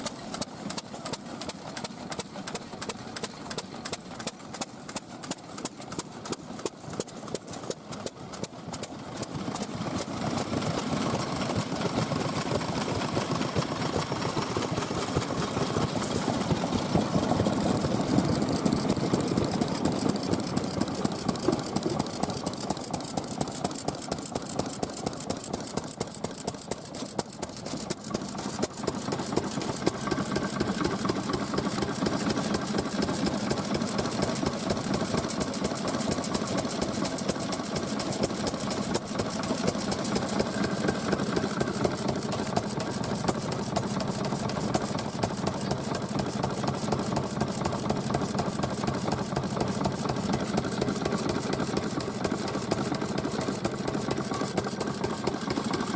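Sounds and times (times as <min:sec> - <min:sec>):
stationary engine running: 0:00.0 - 0:55.9.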